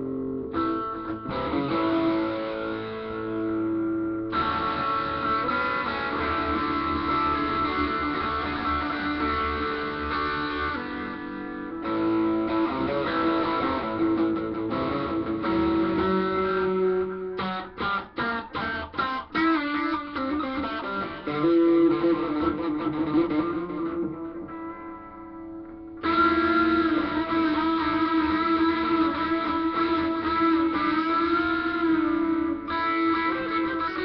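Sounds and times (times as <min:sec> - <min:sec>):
electric guitar chords: 0:00.0 - 0:34.0.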